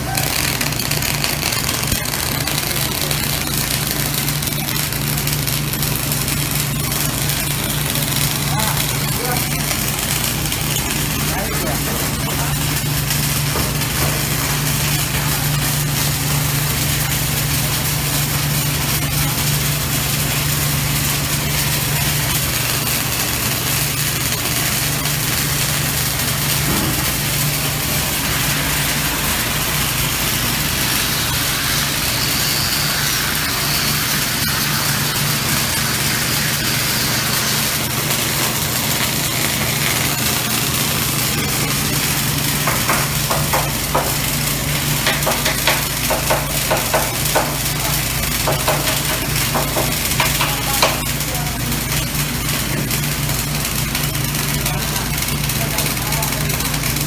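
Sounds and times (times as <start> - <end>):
low machinery hum: 0.0 - 57.0
welding arc hiss: 0.0 - 57.0.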